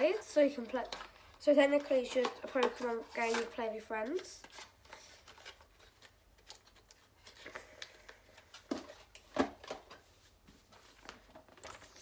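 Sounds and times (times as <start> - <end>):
cards and paper rustling: 0.0 - 12.0.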